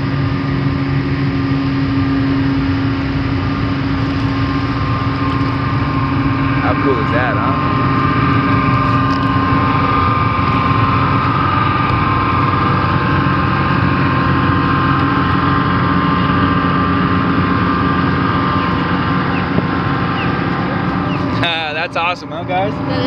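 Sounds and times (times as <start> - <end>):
constant high whine: 0.0 - 23.0
diesel engines droning: 0.0 - 23.0.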